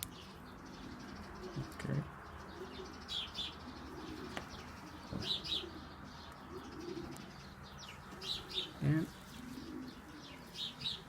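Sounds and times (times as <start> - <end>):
pigeons cooing softly: 0.0 - 11.0.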